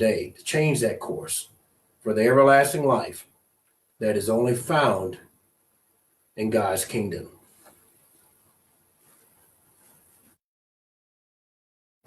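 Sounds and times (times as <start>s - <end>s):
faint room hiss: 0.0s - 10.4s.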